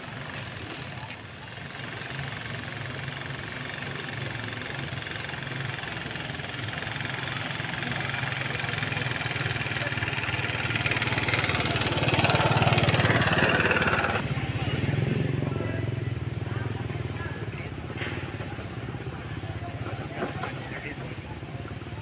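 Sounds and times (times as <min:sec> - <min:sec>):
vehicle engine pulsing: 0:00.0 - 0:22.0.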